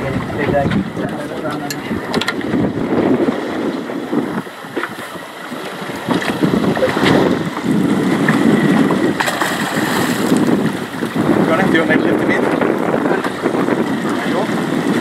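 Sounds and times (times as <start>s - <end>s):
water washing against boat hull: 0.0s - 15.0s
wind buffeting microphone: 0.0s - 15.0s.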